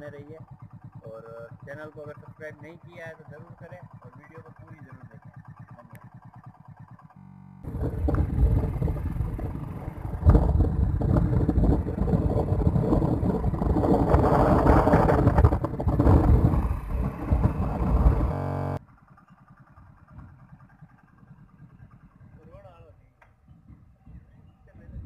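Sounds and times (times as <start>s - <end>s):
motorcycle engine: 0.0s - 22.7s.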